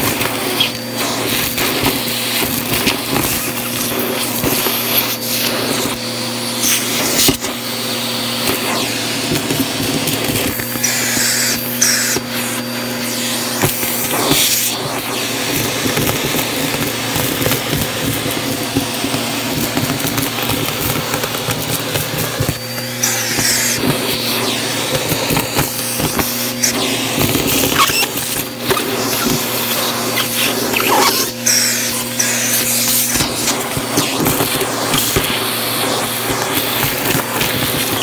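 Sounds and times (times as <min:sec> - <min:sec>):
vacuum cleaner motor hum: 0:00.0 - 0:38.0.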